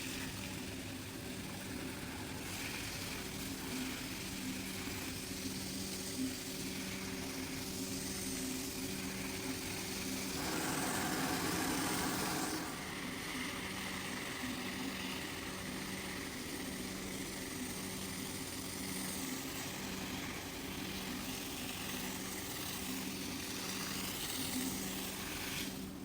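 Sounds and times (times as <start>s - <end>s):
carpet cleaning machine running: 0.0s - 26.0s.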